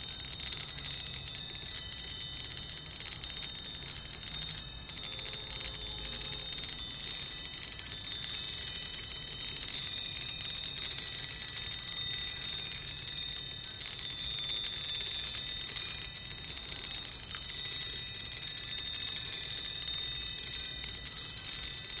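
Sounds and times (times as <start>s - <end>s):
high-pitched chimes tinkling: 0.0s - 22.0s.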